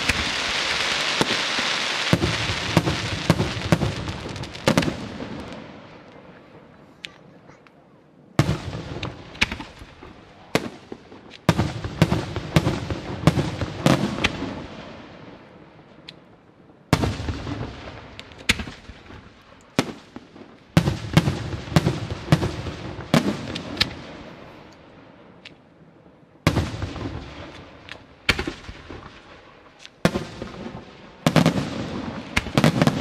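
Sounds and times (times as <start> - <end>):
firework bangs echoing: 0.0 - 7.1, 8.4 - 15.6, 16.9 - 24.6, 26.5 - 33.0.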